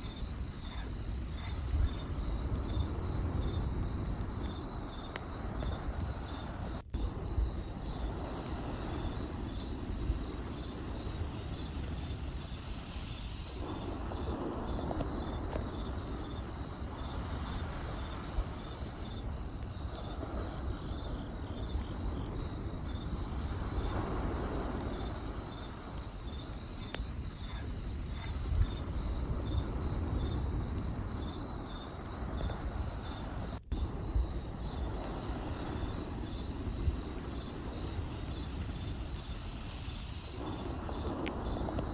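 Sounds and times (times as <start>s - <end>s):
campfire crackling and popping: 0.0s - 41.9s
crickets trilling: 0.0s - 41.9s.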